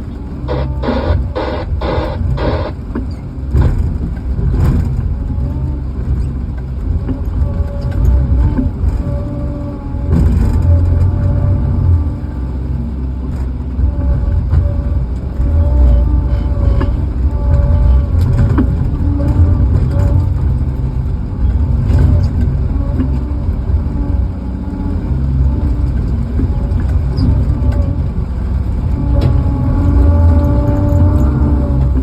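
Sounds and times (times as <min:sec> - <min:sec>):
heavy equipment engine running: 0:00.0 - 0:32.0.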